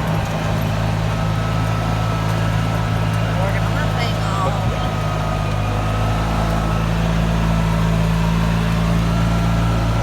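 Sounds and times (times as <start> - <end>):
golf cart motor droning: 0.0 - 10.0.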